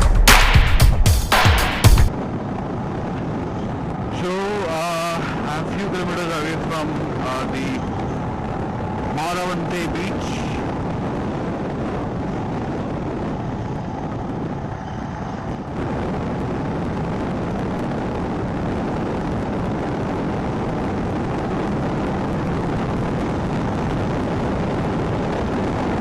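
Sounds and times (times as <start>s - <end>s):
road noise: 0.0s - 26.0s
wind rushing on microphone: 2.0s - 26.0s.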